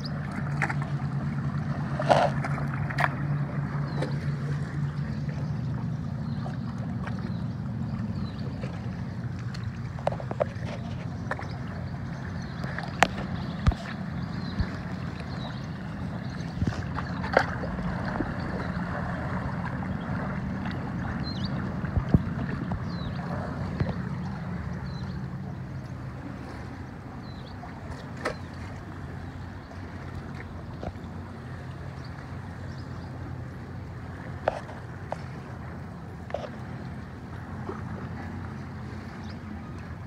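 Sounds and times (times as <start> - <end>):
engine droning: 0.0 - 40.0.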